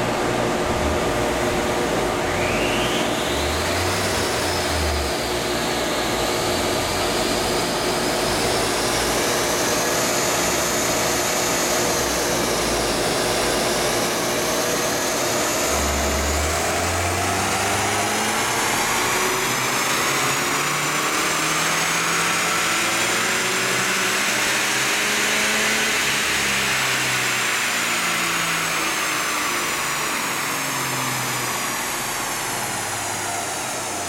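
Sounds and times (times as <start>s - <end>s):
car engine revving on a dyno: 0.0s - 34.0s
cooling fan rushing: 0.0s - 34.0s.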